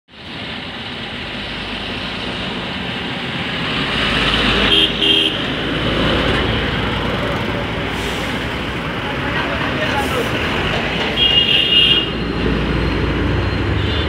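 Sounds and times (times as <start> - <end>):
truck and car passing: 0.1 - 14.0.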